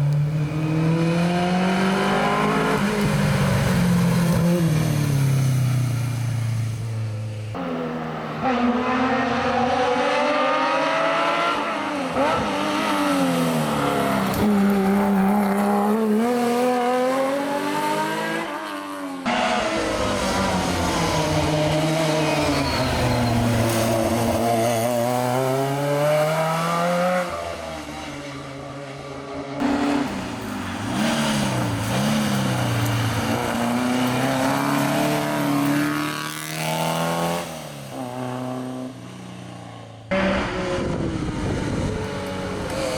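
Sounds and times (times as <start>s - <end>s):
rally car engines revving: 0.0s - 5.6s, 7.5s - 42.9s.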